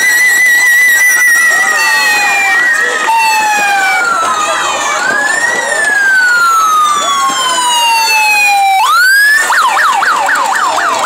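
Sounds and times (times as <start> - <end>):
faint second siren: 0.0 - 11.0
police siren wailing and yelping: 0.0 - 11.0.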